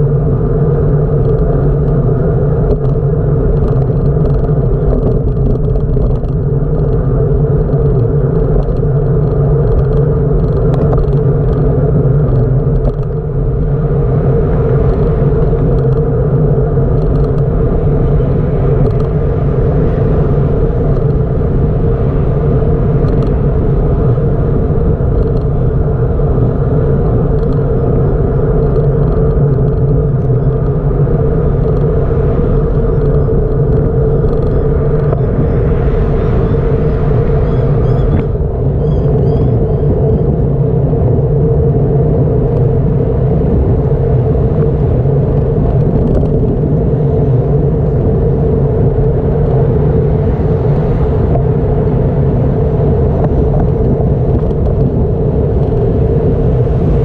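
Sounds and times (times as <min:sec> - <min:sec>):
bicycle ride rumble: 0:00.0 - 0:57.0.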